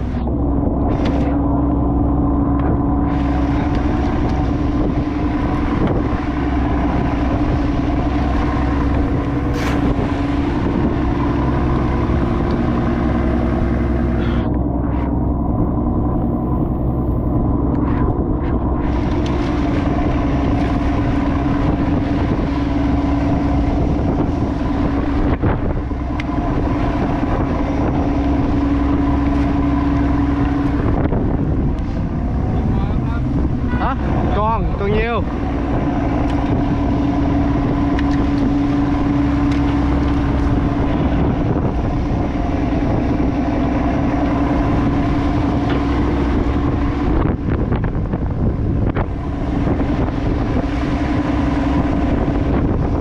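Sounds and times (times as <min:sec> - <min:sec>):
boat engine humming: 0:00.0 - 0:53.0
wind and water rushing: 0:00.0 - 0:53.0.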